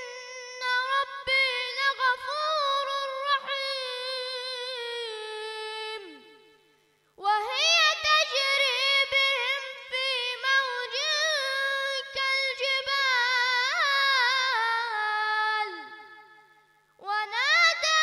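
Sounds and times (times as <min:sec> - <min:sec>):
boy chanting recitation: 0:00.0 - 0:06.6, 0:07.2 - 0:16.2, 0:17.0 - 0:18.0.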